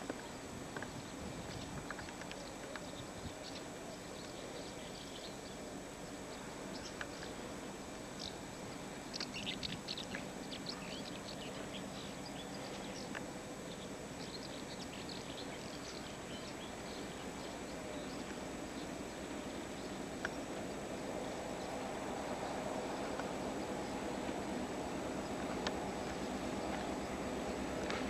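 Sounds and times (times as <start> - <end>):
small birds chirping: 0.2 - 7.5, 8.1 - 28.0.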